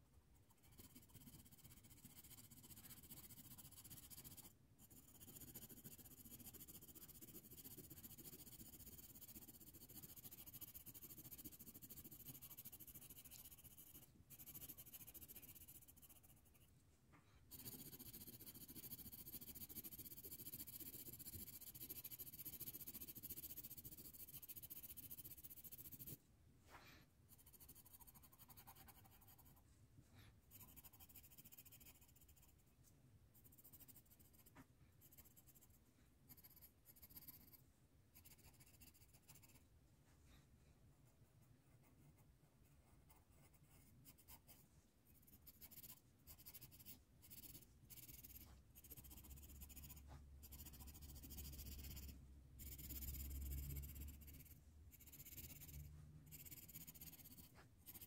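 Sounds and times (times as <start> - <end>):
pencil scratching on paper: 0.0 - 32.8, 33.4 - 58.0.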